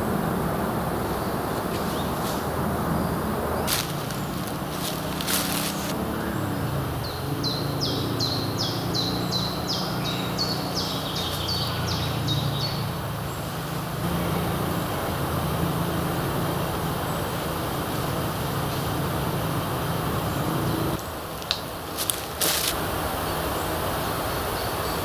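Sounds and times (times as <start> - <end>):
distant engine hum: 0.0 - 25.0.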